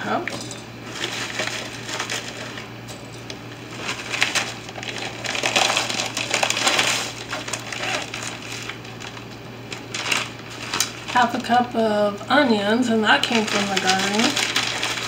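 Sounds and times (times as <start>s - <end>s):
plastic bag crinkling: 0.8s - 11.6s, 13.1s - 15.0s.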